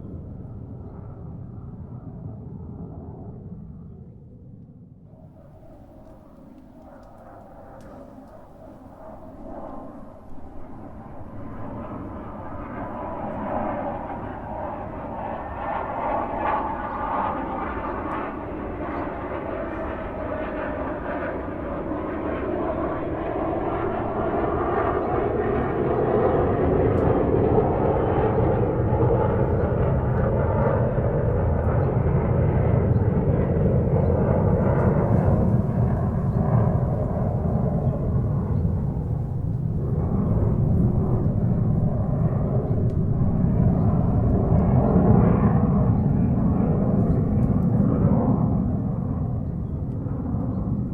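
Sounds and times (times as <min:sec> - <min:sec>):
airplane engine and wind noise: 0:00.0 - 0:50.9.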